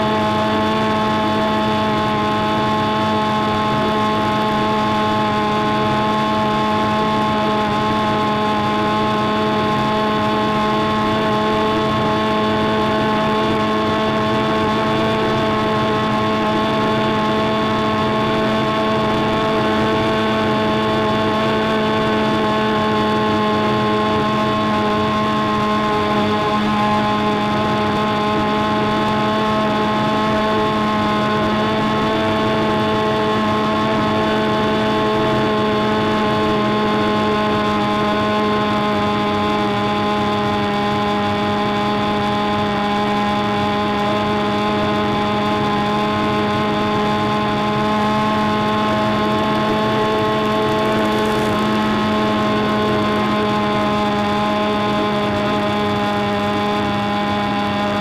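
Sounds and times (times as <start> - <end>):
model airplane engine droning: 0.0 - 58.0.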